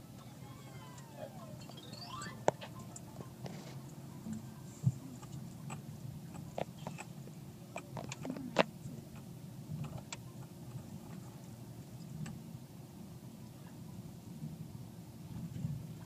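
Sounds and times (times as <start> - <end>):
low engine and road hum: 0.0 - 16.0.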